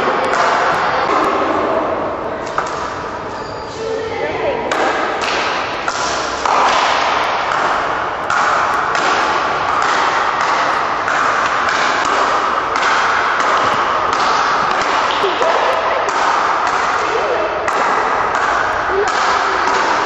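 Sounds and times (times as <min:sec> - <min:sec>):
rackets striking ball: 0:00.0 - 0:03.4, 0:04.6 - 0:20.0
rushing hall noise: 0:00.0 - 0:20.0.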